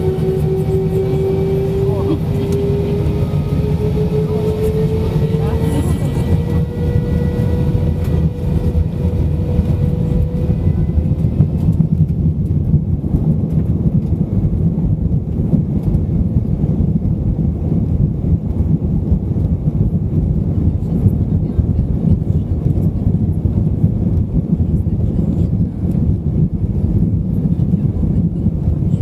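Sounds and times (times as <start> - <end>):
aircraft cabin low rumble: 0.0 - 29.0
faint engine whine: 0.0 - 29.0.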